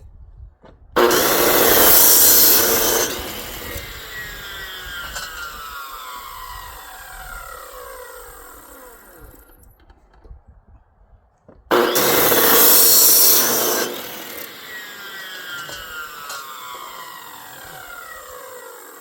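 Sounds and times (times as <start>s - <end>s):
saw cutting: 1.0s - 9.7s, 11.7s - 19.0s
power saw motor whining: 1.0s - 9.9s, 11.7s - 19.0s.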